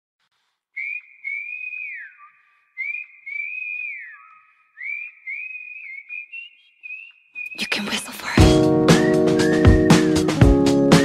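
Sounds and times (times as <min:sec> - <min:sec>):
whistled melody: 0:00.8 - 0:11.0.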